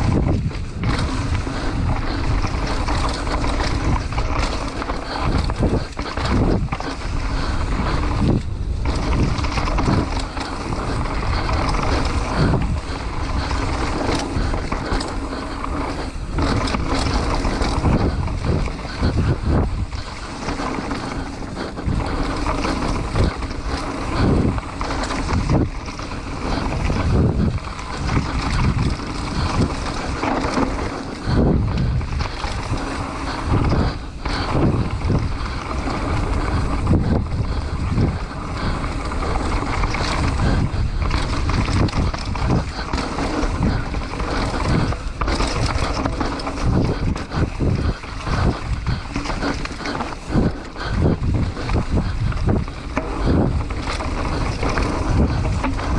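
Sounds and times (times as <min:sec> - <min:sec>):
bike knocking and rattling: 0:00.0 - 0:55.9
wind rush on microphone: 0:00.0 - 0:55.9.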